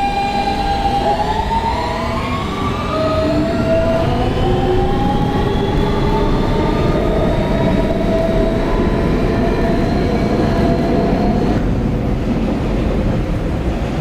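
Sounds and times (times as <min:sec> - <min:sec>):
traction motor whine: 0:00.0 - 0:11.6
subway train wheels rumbling: 0:00.0 - 0:14.0.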